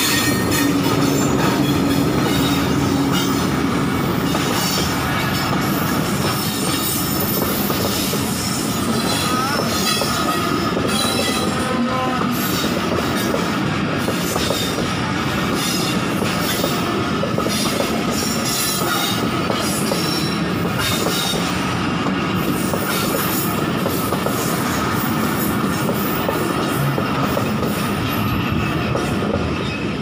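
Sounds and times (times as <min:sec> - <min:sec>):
rail joint clacks: 0:00.0 - 0:30.0
train wheel and rail rumble: 0:00.0 - 0:30.0.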